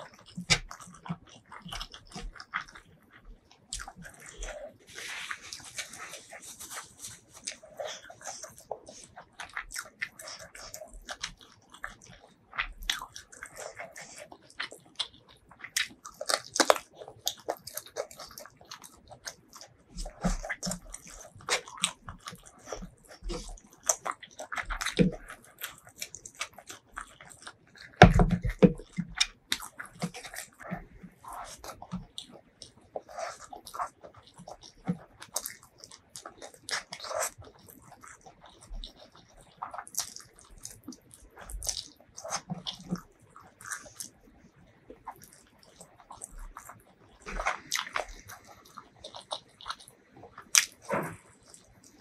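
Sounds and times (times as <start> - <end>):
fingers mixing rice: 0.0 - 44.3
person chewing food: 0.0 - 52.0.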